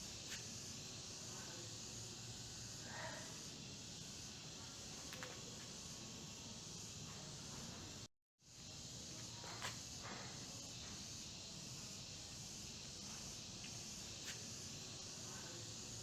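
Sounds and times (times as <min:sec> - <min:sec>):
faint high hiss: 0:00.0 - 0:16.0.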